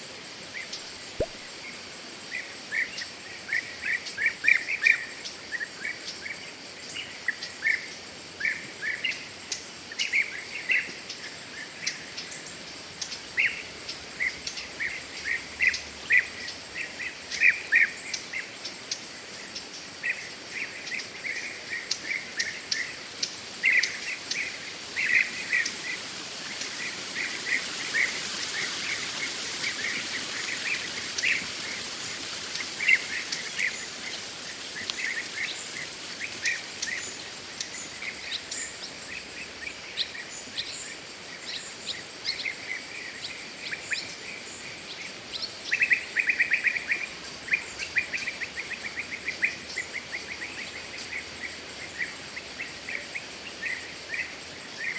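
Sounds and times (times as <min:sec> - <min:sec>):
rain hissing: 0:00.0 - 0:04.4, 0:08.1 - 0:54.9.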